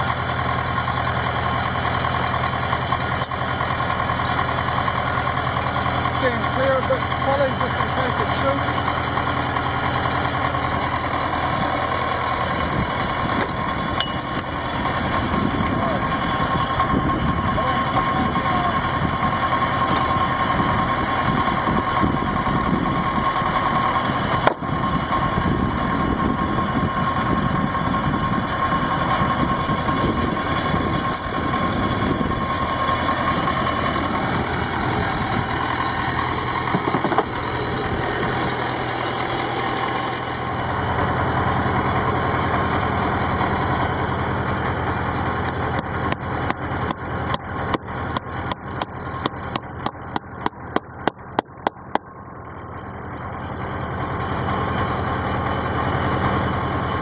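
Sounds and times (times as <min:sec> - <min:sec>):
hydraulic whine: 0:00.0 - 0:57.0
tractor engine running: 0:00.0 - 0:57.0.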